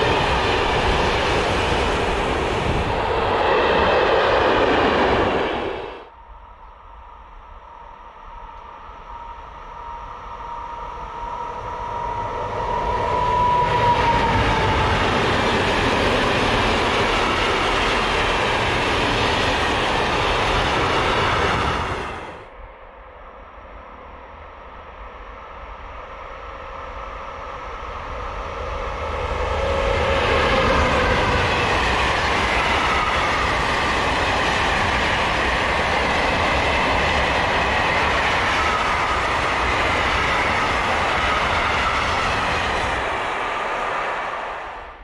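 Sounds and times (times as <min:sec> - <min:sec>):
train passing: 0:00.0 - 0:23.7, 0:24.3 - 0:45.0.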